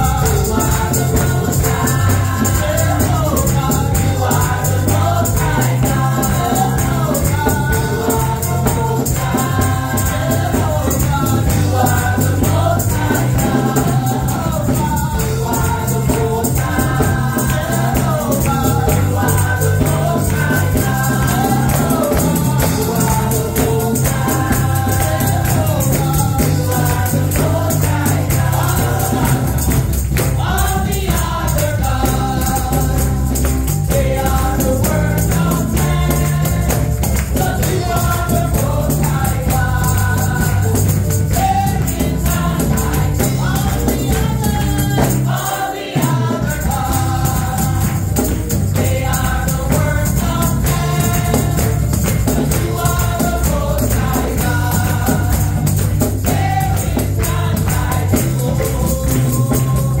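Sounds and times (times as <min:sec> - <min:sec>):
band with bass and percussion: 0:00.0 - 1:00.0
gospel group singing: 0:00.0 - 1:00.0.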